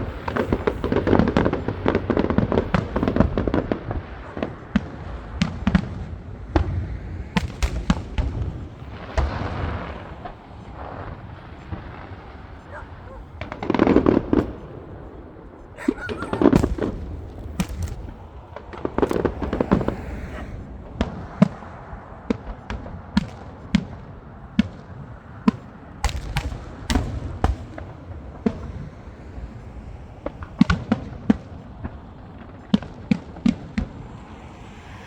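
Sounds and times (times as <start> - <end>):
deep fireworks booms: 0.0 - 35.0
fireworks bangs and pops: 0.0 - 35.0.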